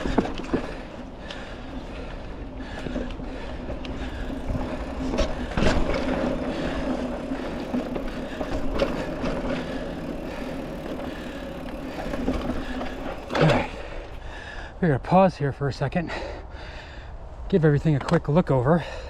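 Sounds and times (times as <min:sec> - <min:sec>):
mountain bike rolling: 0:00.0 - 0:15.4.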